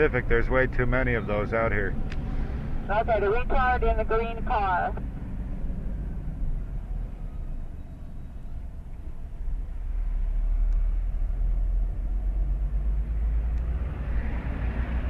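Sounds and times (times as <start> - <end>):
car driving on road: 0.0 - 15.0.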